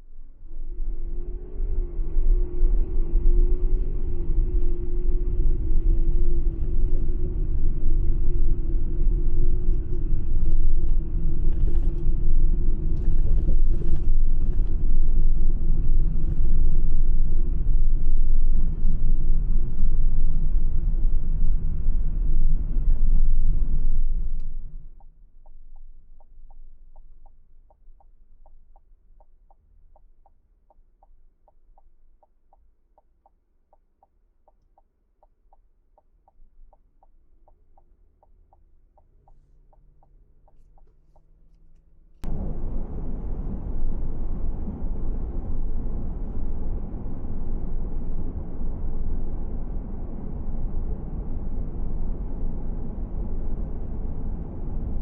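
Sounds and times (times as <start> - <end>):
car road rumble: 0.1 - 32.5, 35.2 - 55.0.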